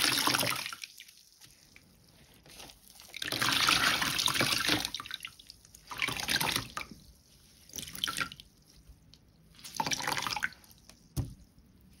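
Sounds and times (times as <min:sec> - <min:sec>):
wet soap squelching: 0:00.3 - 0:12.0.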